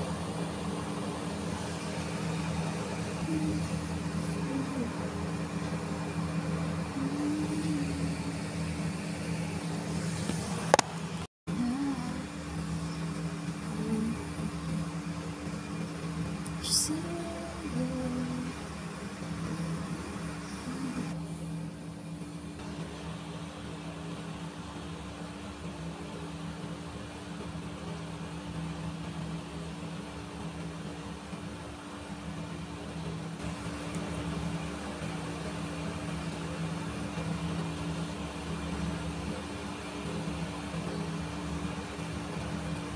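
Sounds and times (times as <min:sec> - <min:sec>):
constant hiss: 0:00.0 - 0:42.9
low machine hum: 0:00.0 - 0:42.9.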